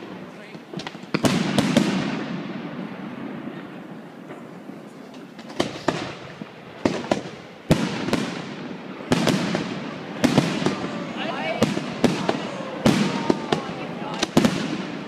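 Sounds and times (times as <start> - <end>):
distant fireworks bursts: 0.0 - 15.0
fireworks bangs echoing: 0.0 - 15.0.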